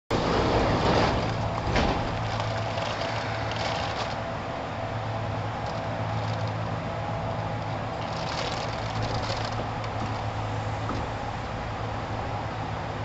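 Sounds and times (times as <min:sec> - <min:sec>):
train equipment low hum: 0:00.1 - 0:13.0.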